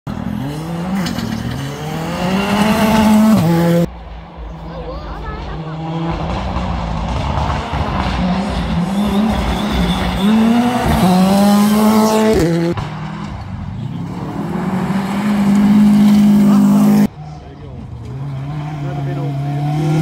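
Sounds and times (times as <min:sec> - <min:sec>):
rally car engine revving: 0:00.1 - 0:20.0.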